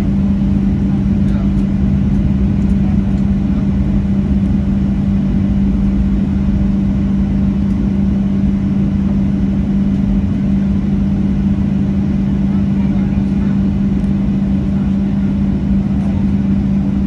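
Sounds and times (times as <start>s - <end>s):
airplane cabin engine hum: 0.0s - 17.0s.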